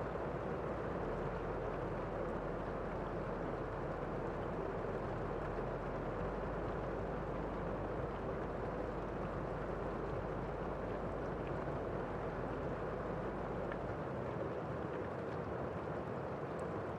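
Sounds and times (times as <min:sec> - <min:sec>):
muffled rain hiss: 0:00.0 - 0:16.9.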